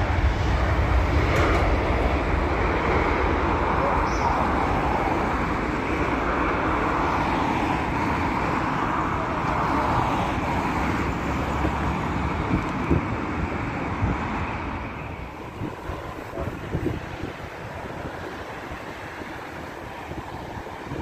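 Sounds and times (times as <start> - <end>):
jet engines at takeoff power: 0.0 - 21.0.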